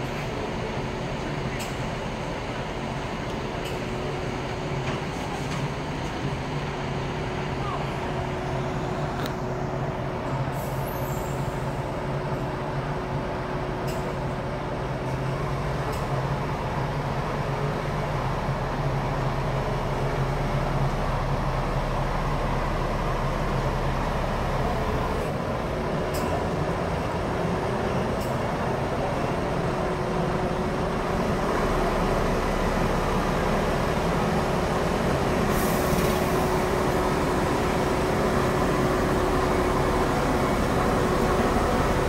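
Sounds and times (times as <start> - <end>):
diesel bus engine running: 0.0 - 42.0.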